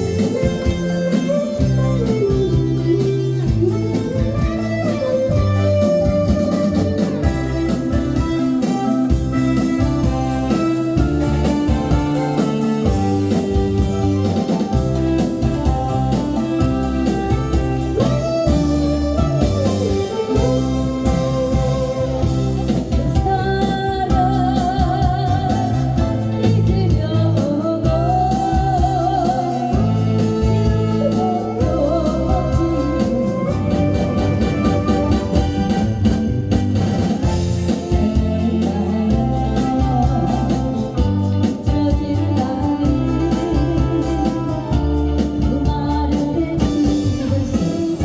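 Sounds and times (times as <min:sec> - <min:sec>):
person singing: 0:00.0 - 0:35.8, 0:37.6 - 0:48.0
pop song backing track: 0:00.0 - 0:48.0.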